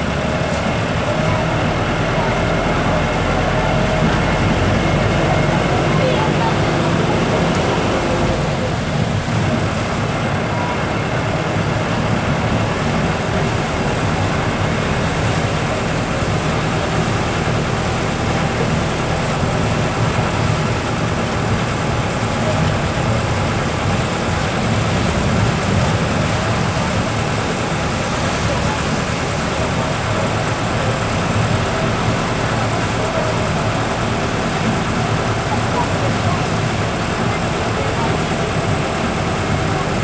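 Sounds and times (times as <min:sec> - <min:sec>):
tyres on wet road: 0:00.0 - 0:40.0
vehicle engine: 0:00.0 - 0:40.0.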